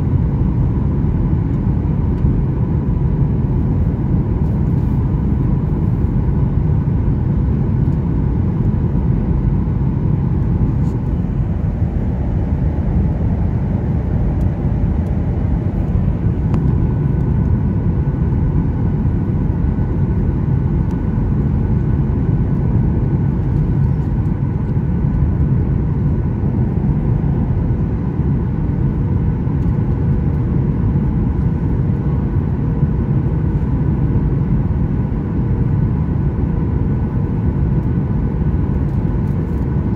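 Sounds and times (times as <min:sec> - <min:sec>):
airliner cabin rumble: 0:00.0 - 0:39.9
faint steady hum: 0:00.0 - 0:39.9.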